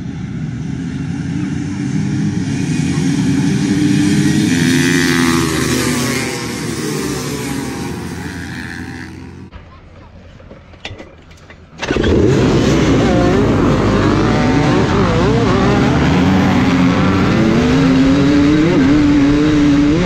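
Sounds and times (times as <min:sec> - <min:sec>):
motorcycle engines revving hard: 0:00.0 - 0:09.5, 0:11.8 - 0:20.0.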